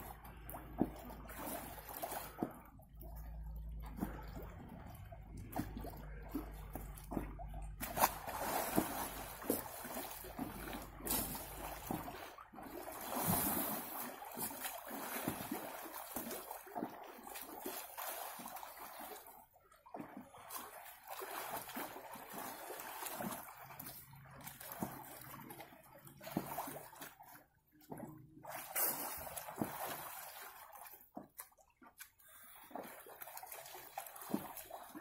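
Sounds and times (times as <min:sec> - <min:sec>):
water splashing in a pool: 0:00.0 - 0:35.0.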